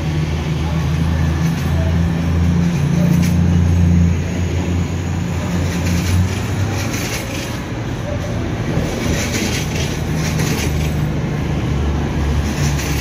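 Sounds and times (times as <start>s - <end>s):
train engines droning: 0.0s - 13.0s
wheels clacking over rail joints: 1.2s - 4.1s, 5.2s - 13.0s.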